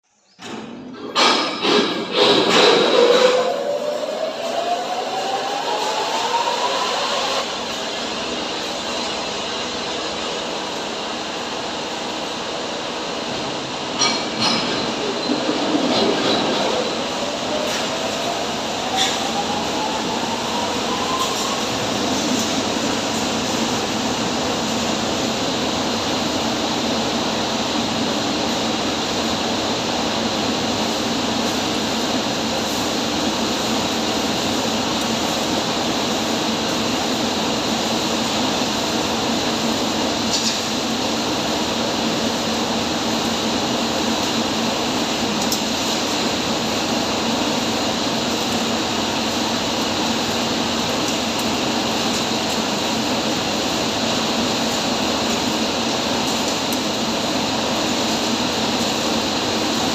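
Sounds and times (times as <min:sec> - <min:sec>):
hammer mill running: 0:00.5 - 0:59.9.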